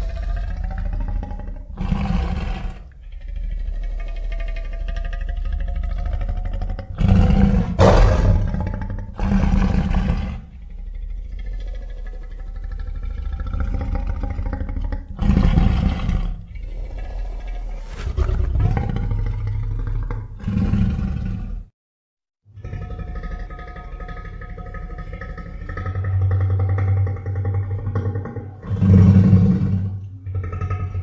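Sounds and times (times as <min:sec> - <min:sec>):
harsh monster roars: 0:00.0 - 0:21.7, 0:25.9 - 0:31.0
low monster growling: 0:00.0 - 0:21.7, 0:22.6 - 0:31.0.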